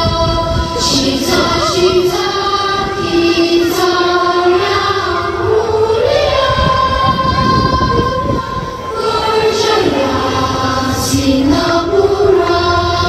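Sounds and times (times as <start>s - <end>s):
choir singing with backing music: 0.0s - 13.0s.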